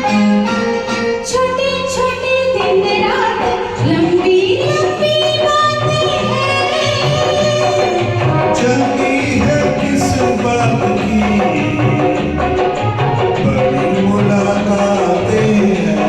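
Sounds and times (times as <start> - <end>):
film song music: 0.0 - 16.0.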